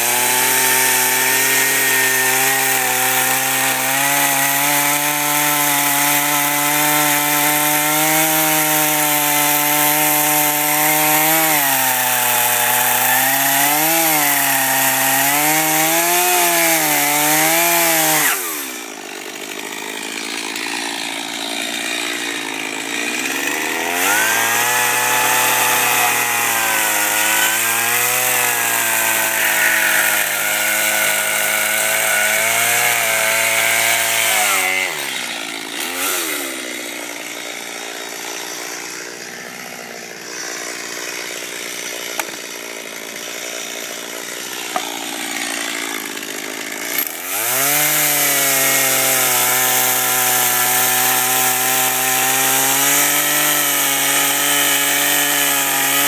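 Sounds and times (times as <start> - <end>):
chainsaw cutting wood: 0.0 - 56.0
chainsaw idling: 0.0 - 56.0.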